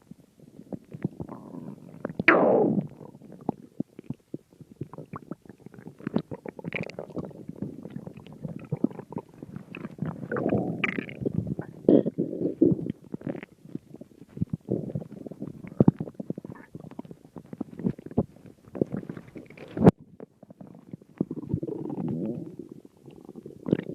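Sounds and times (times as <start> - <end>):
stomach growling: 0.0 - 23.9.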